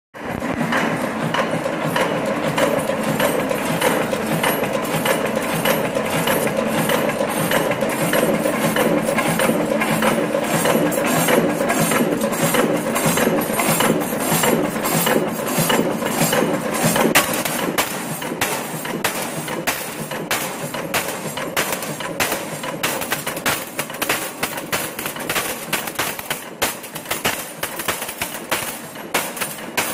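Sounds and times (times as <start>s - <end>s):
machine knocking: 0.2s - 29.9s
machinery running: 0.2s - 29.9s.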